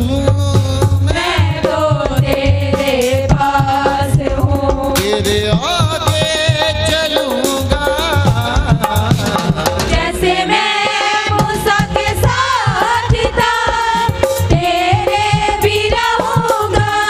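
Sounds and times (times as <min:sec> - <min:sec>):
worship song with drum beat: 0:00.0 - 0:17.0.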